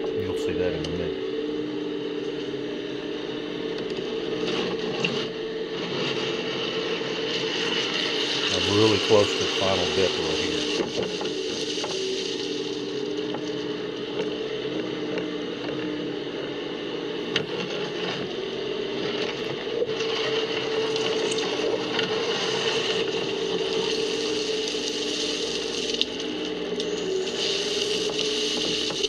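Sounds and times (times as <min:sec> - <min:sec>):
excavator diesel engine and hydraulics: 0:00.0 - 0:29.0.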